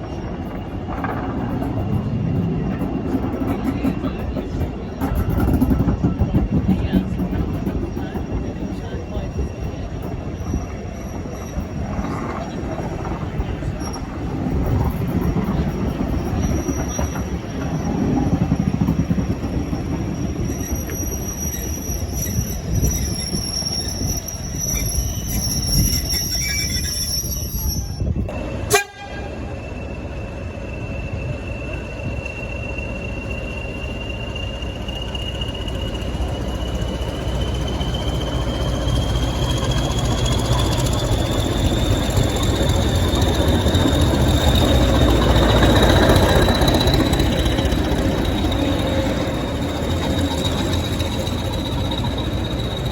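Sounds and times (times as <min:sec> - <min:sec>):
diesel train engine: 0:00.0 - 0:52.9
train wheels squealing: 0:00.0 - 0:52.9.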